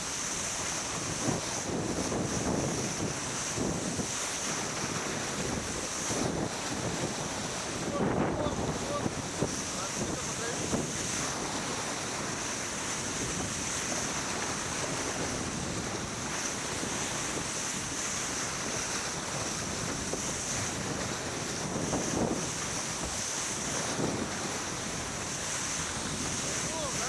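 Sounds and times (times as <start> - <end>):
water rushing along hull: 0.0 - 27.0
water splashes: 0.0 - 27.0
wind buffeting microphone: 0.0 - 27.0.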